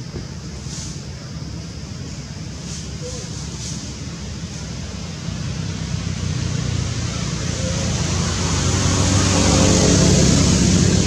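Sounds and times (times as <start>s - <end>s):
vehicle engine running: 2.1s - 11.0s.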